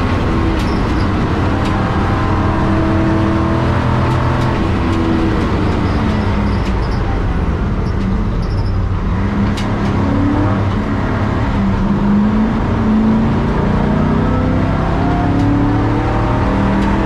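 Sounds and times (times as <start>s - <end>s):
race car engine revving: 0.0s - 17.0s
road rumble: 0.0s - 17.0s.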